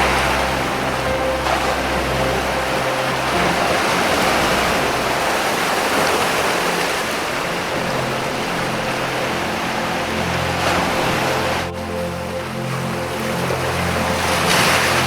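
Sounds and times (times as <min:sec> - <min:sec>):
low sustained music tones: 0:00.0 - 0:15.0
surf washing over rocks: 0:00.0 - 0:15.0.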